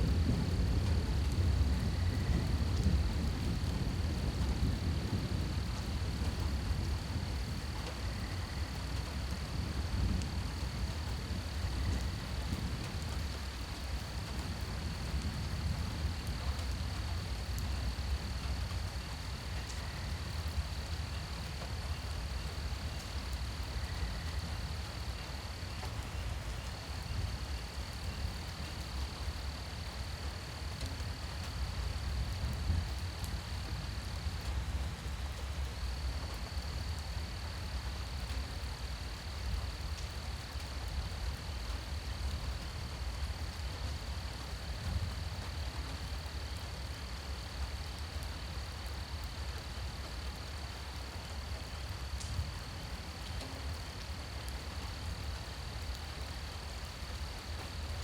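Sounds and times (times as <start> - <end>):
faint rain hiss: 0.0 - 58.0
night insects trilling: 0.0 - 58.0.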